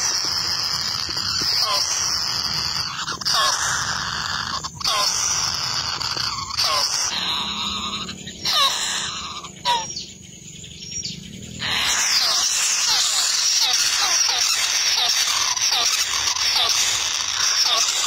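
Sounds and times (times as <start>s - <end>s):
nestlings chirping shrilly: 0.0s - 18.0s.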